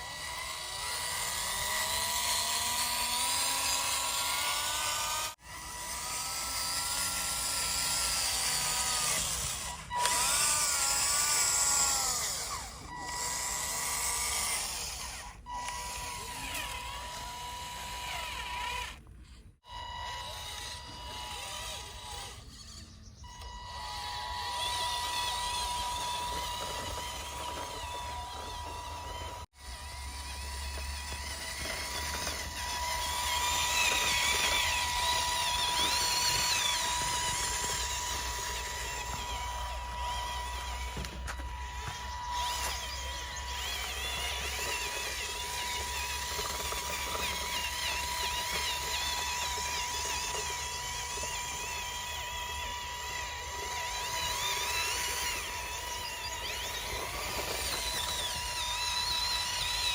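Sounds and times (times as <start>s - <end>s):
small electric motors whirring: 0.0s - 59.9s.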